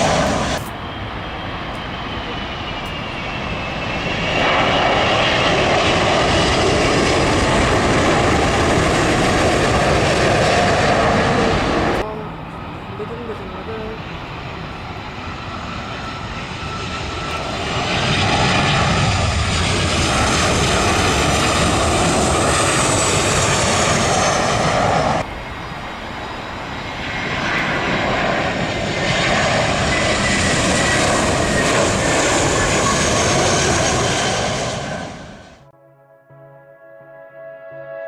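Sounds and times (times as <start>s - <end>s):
jet airliner passing overhead: 0.0s - 35.7s.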